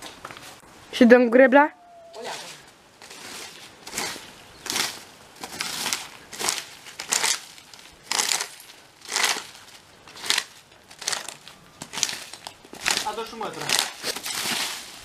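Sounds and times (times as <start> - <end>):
rake scraping ground: 2.2 - 15.0.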